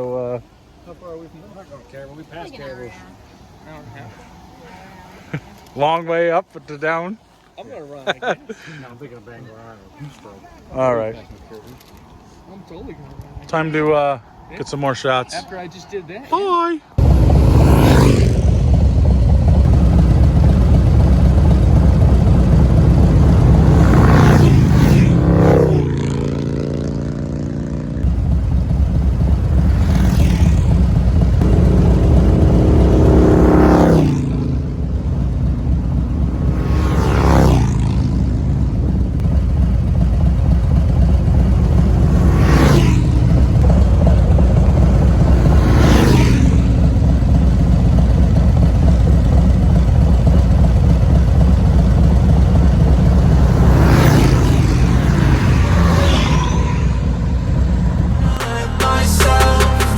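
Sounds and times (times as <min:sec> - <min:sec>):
vehicles passing: 0:00.0 - 0:59.9
wind: 0:00.0 - 0:59.9
motorcycle engine rumble: 0:08.2 - 0:59.9.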